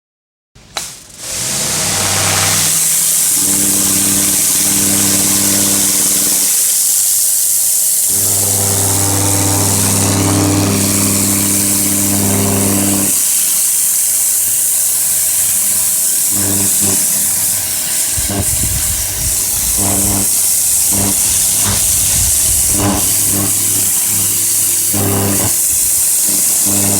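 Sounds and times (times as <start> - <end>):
motor humming: 0.8 - 26.9
pressure washer spray hissing: 0.8 - 26.9.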